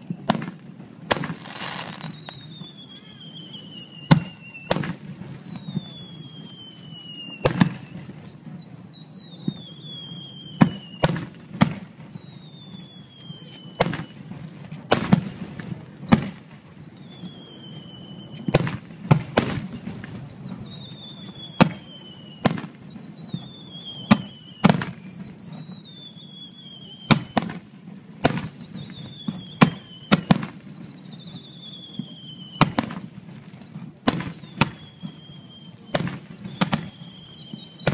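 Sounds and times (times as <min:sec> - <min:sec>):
falling firework whistles: 0:00.0 - 0:37.9
firework shells booming: 0:00.0 - 0:37.9.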